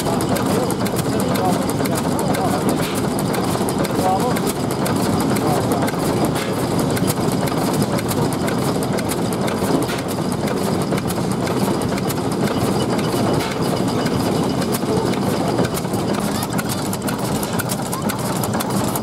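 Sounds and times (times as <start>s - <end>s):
stationary engine running: 0.0s - 19.0s.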